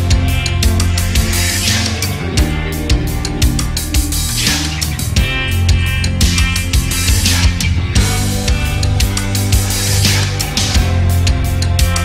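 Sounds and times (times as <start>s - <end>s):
loud music with drum beat: 0.0s - 12.0s.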